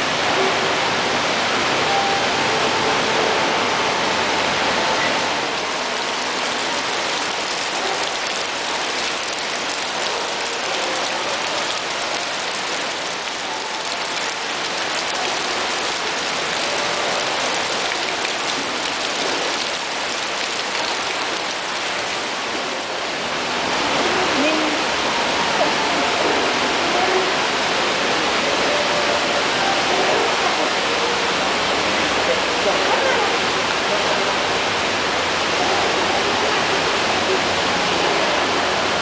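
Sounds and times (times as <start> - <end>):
water rushing and splashing: 0.0 - 39.0.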